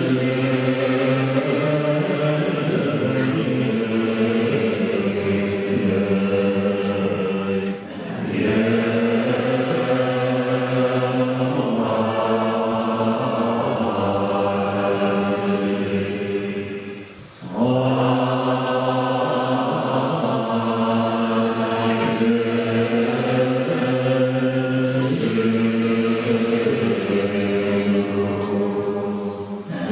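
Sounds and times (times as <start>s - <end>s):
monks chanting in unison: 0.0s - 29.9s.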